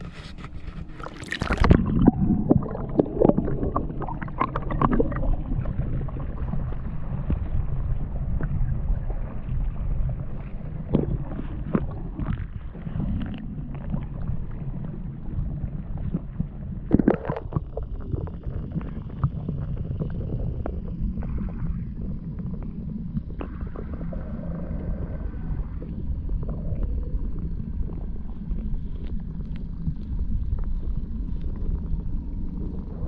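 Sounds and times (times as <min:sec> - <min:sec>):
muffled underwater rumble: 0:00.0 - 0:33.0.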